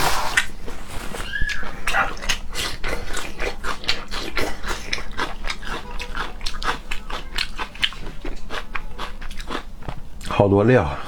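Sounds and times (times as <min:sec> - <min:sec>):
wet chewing and lip-smacking: 0:00.0 - 0:10.4.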